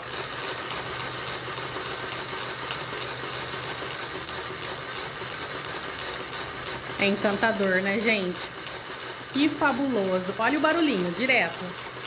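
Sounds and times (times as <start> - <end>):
toy sewing machine running: 0.0 - 12.0.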